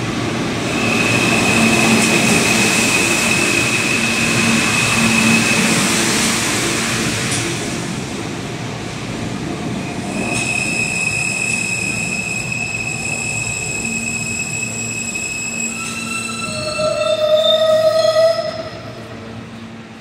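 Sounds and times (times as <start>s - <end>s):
high-pitched train whine: 0.0s - 8.2s, 9.8s - 20.0s
lower stepped train tones: 0.0s - 20.0s
subway wheels rumbling on track: 0.0s - 20.0s.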